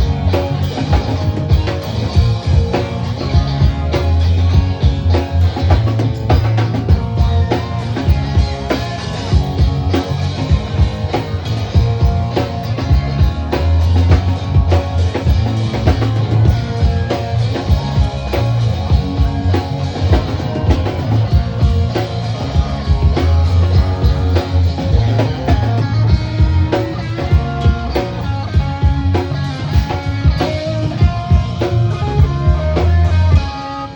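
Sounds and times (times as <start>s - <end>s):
driving drum kit: 0.0s - 33.9s
rock band playing live: 0.0s - 33.9s.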